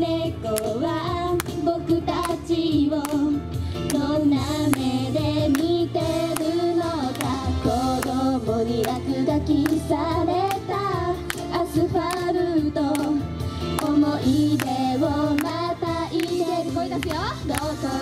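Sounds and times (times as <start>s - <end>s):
female group singing pop song: 0.0s - 18.0s
backing track drum beat: 0.4s - 18.0s.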